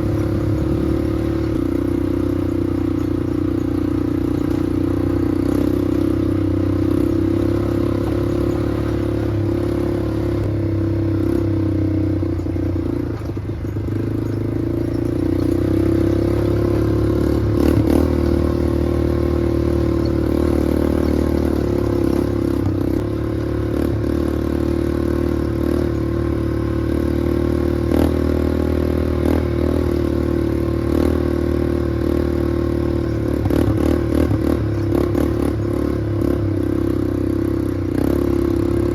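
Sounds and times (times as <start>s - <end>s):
small vehicle engine running: 0.0s - 38.9s.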